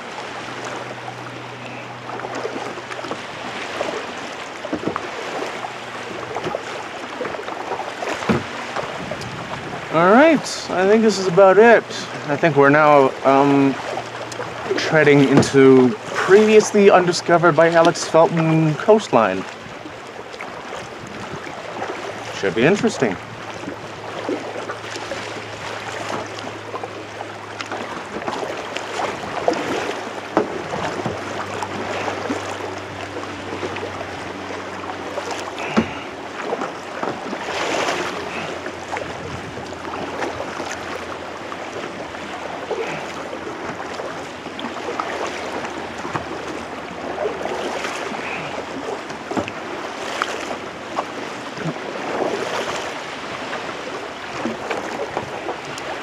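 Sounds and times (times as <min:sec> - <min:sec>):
paddle strokes through water: 0:00.0 - 0:56.0
water lapping around hull: 0:00.0 - 0:56.0.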